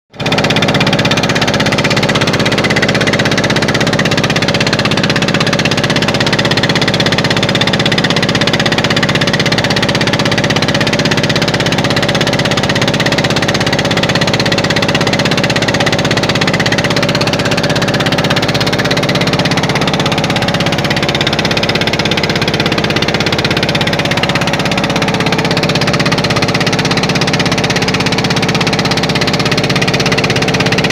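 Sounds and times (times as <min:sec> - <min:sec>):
engine running steadily: 0:00.1 - 0:30.9.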